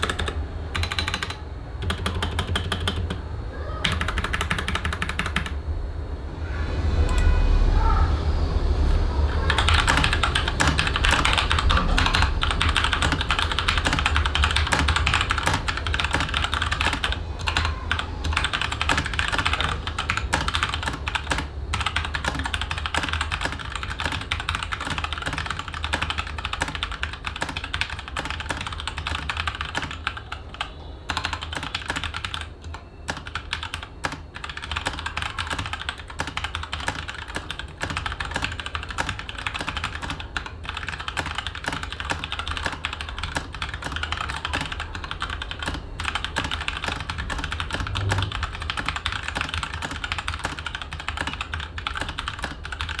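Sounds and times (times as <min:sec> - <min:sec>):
fast mechanical keyboard typing: 0:00.0 - 0:05.6, 0:09.3 - 0:53.0.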